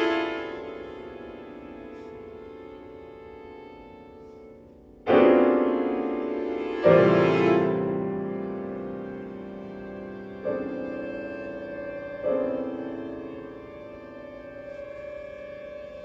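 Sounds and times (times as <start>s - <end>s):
chamber music led by piano: 0.0s - 16.0s
loud piano chords: 0.0s - 16.0s.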